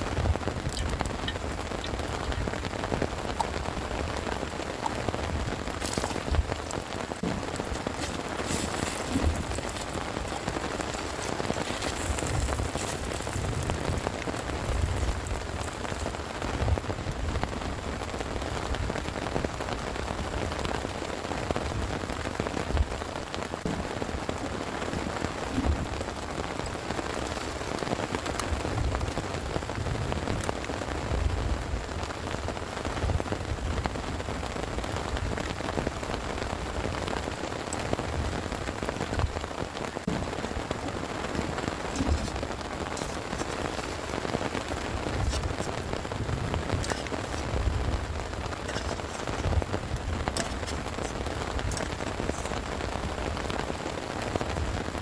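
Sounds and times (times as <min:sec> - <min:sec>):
heavy rain hiss: 0:00.0 - 0:55.0
raindrops striking sharply: 0:00.0 - 0:55.0.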